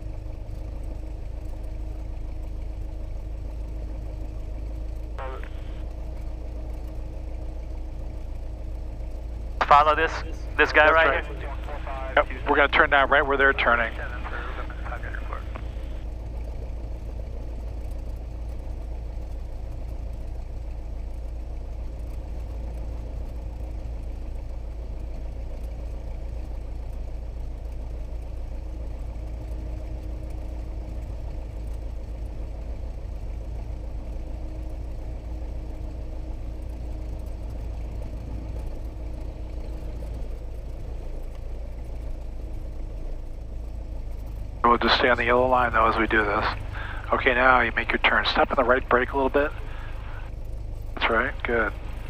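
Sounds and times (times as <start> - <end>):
light aircraft engine and propeller: 0.0 - 52.0.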